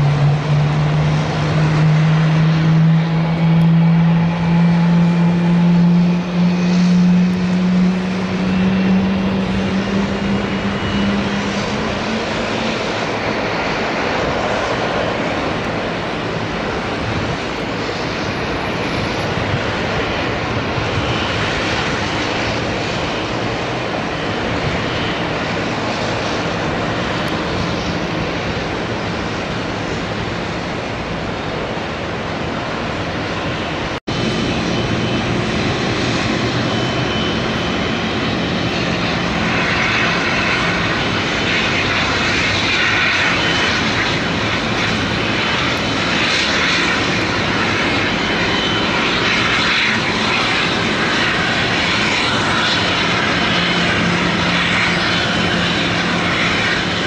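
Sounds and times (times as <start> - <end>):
jet engine roar: 0.0 - 57.0
jet engine whine: 0.0 - 57.0.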